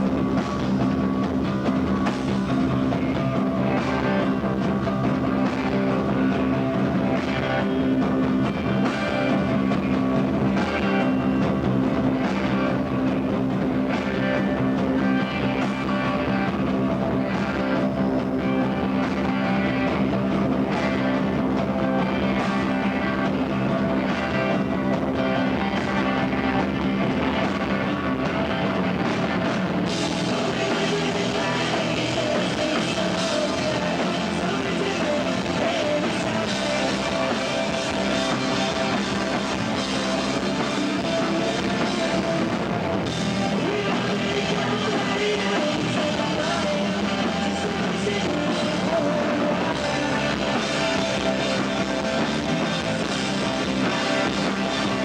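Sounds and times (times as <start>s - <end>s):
drum kit: 0.0s - 55.0s
electric guitars: 0.0s - 55.0s.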